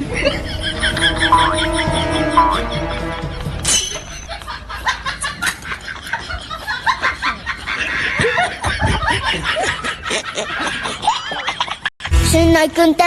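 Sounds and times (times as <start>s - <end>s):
laughter: 0.0s - 11.9s.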